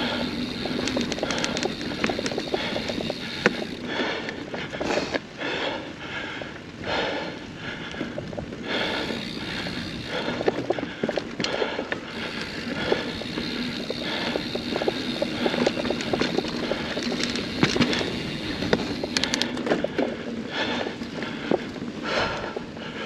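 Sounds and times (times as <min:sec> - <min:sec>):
bike knocking and rattling: 0:00.0 - 0:05.3, 0:06.9 - 0:23.0
bike tyres rumbling on trail: 0:00.0 - 0:23.0.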